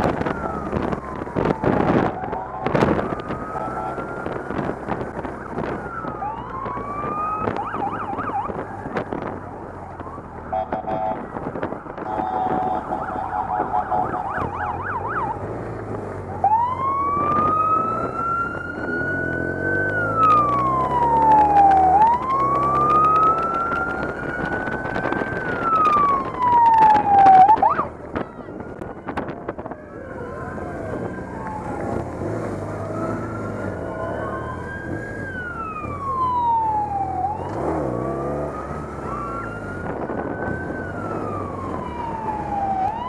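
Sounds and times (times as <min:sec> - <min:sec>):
police siren: 0:00.0 - 0:15.6, 0:16.2 - 0:43.0
motorcycle engines running: 0:00.0 - 0:43.0.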